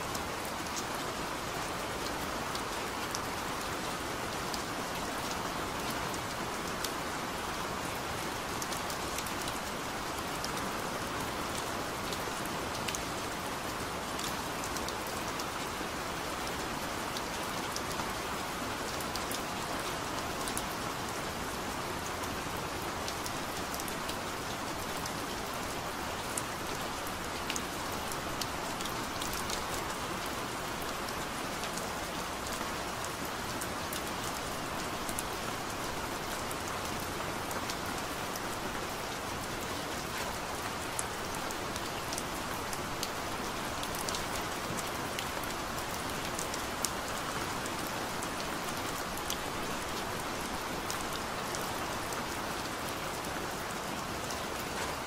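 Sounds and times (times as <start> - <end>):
steady gentle rain: 0.0 - 55.0.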